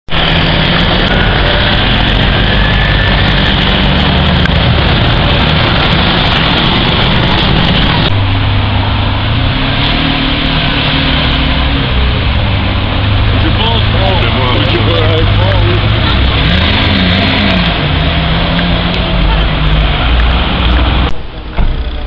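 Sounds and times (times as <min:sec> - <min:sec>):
car engine pulling away: 0:00.1 - 0:22.0.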